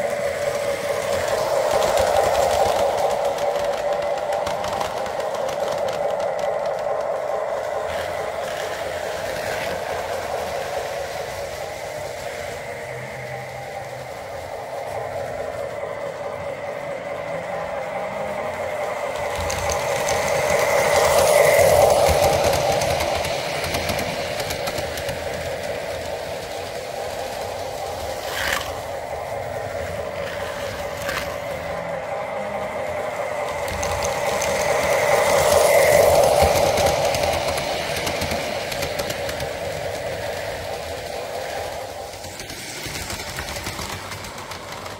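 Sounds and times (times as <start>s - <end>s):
model train rolling rumble: 0.0s - 44.9s
model train wheels clicking: 0.0s - 44.9s.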